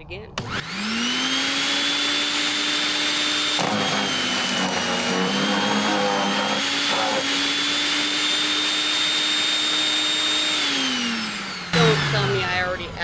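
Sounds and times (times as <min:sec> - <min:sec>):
blades grinding wood: 0:00.4 - 0:13.0
wood chipper motor whine: 0:00.4 - 0:13.0.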